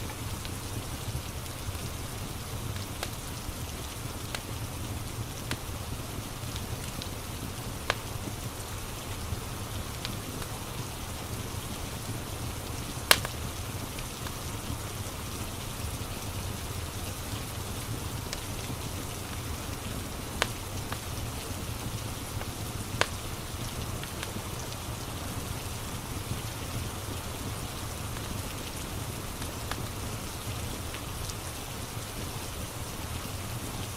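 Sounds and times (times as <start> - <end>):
steady rain hissing: 0.0 - 33.9
wood fire popping: 0.0 - 33.9.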